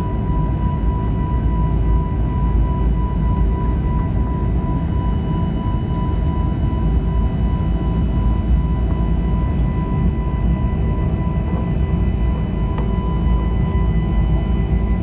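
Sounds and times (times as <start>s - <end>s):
jet engine whine: 0.0s - 15.0s
jet engines rumbling in cabin: 0.0s - 15.0s.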